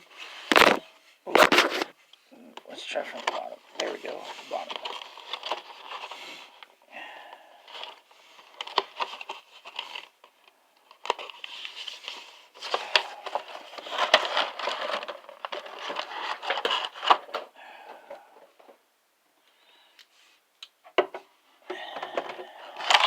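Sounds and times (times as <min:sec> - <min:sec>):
cardboard and plastic rustling: 0:00.0 - 0:06.7, 0:07.6 - 0:18.8, 0:21.8 - 0:23.0.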